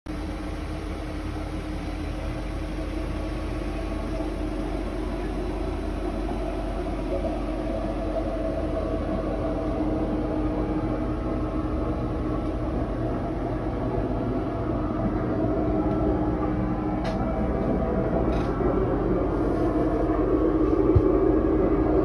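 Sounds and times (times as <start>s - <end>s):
van engine idling hum: 0.1s - 22.0s.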